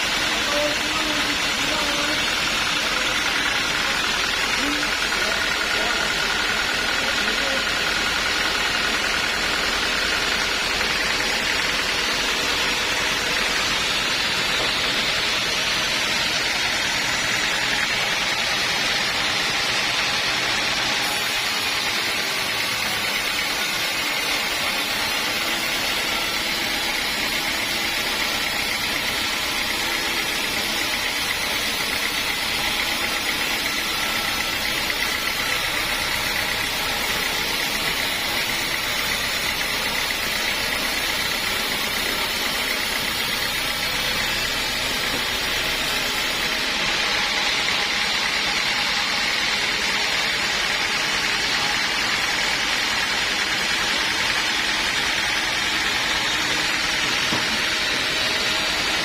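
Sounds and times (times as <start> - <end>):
sawmill saw running: 0.0 - 59.0.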